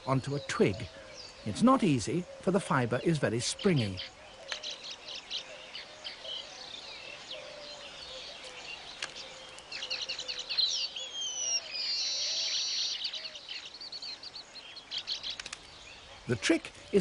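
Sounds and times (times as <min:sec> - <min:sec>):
birds chattering: 0:00.0 - 0:17.0.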